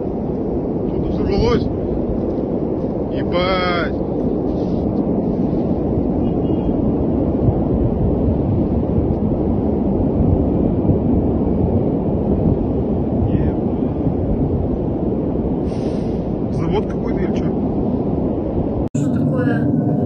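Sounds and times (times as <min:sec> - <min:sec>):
large fire rumbling: 0:00.0 - 0:20.0.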